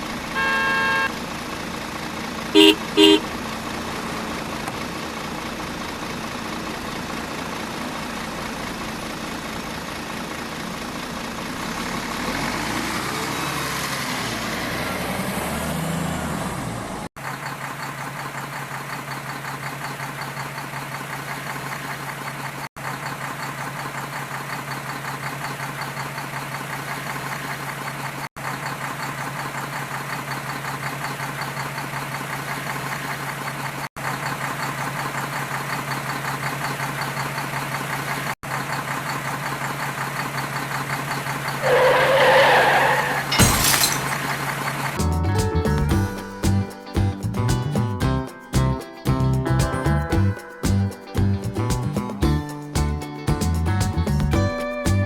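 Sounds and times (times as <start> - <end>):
truck engine idling: 0.0 - 13.1, 16.9 - 55.0.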